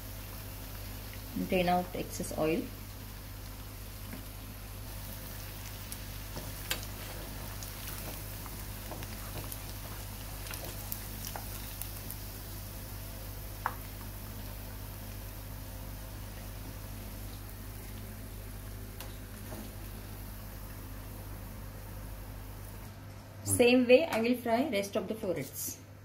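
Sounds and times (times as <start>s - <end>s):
food deep-frying in oil: 0.0s - 23.0s.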